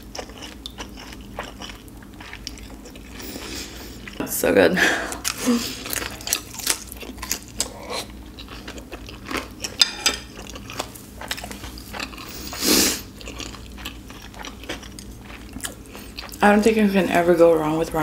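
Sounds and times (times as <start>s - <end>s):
close chewing mouth sounds: 0.0s - 4.2s, 5.2s - 16.6s.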